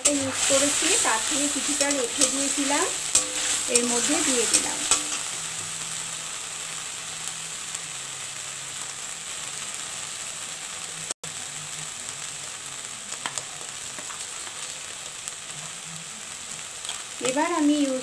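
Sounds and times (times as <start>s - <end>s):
paste sizzling in hot oil: 0.0s - 18.0s.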